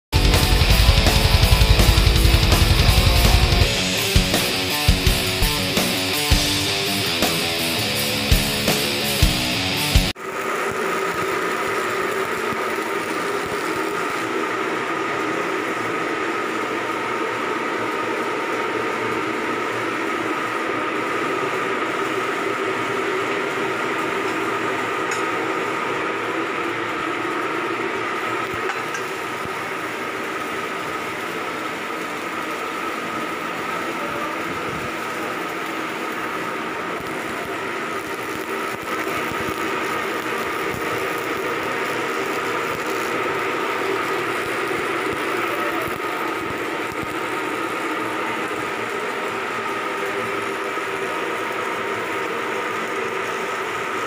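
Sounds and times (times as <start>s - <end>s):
high steady whine: 0.1s - 54.0s
machinery humming: 0.2s - 54.0s.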